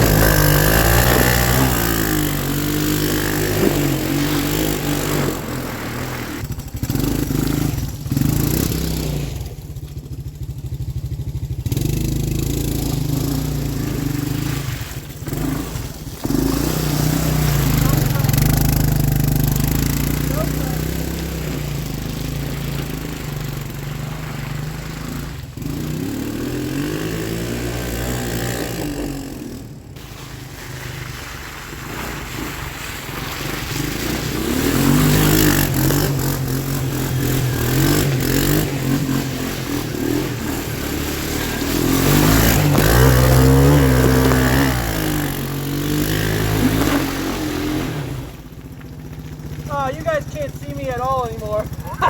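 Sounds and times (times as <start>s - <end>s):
engine revving up and down: 0.0s - 9.6s, 11.6s - 29.8s, 31.8s - 48.5s.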